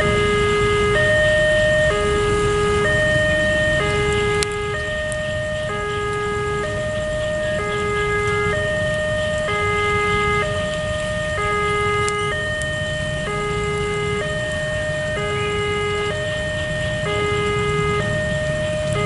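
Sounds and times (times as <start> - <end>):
idling engines rumble: 0.0 - 19.0
level-crossing two-tone alarm: 0.0 - 19.0.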